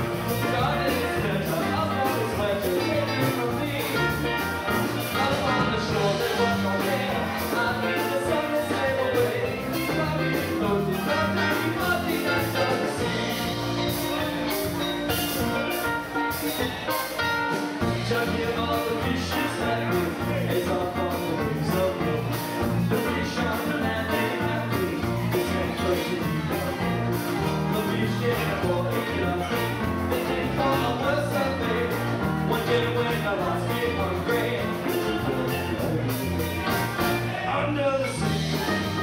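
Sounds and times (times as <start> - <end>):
acoustic guitar: 0.0 - 39.0
drums: 0.0 - 39.0
electric bass: 0.0 - 39.0
lead vocal singing: 0.0 - 39.0.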